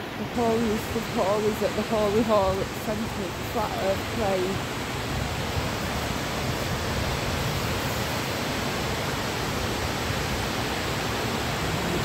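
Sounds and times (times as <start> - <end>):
water rushing down overflow: 0.0 - 12.0.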